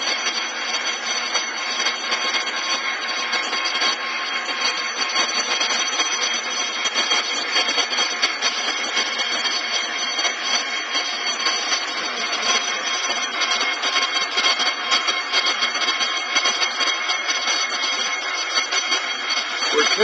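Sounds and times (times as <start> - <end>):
high whining tones: 0.0 - 20.0
metal lathe running: 0.0 - 20.0.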